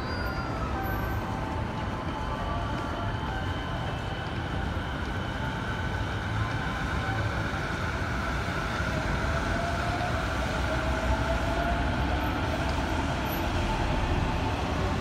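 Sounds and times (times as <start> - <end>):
city street noise: 0.0 - 15.0
electric train rumbling: 0.0 - 15.0
traction motors whining: 0.0 - 15.0.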